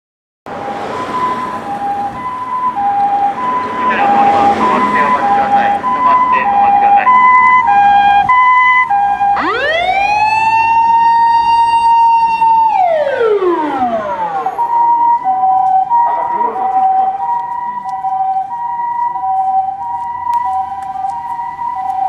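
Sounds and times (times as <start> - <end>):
ambulance siren two-tone: 0.5 - 22.0
siren wail rising and falling: 0.5 - 22.0.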